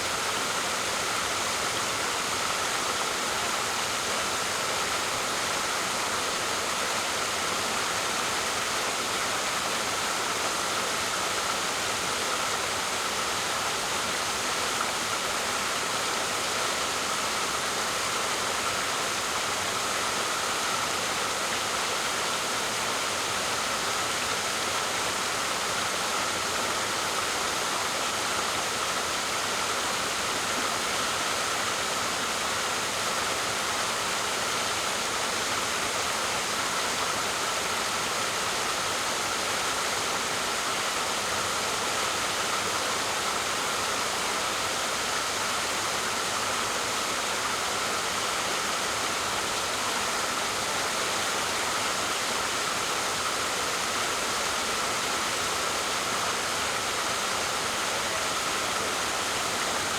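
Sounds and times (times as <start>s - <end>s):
waterfall rushing: 8.6s - 59.9s.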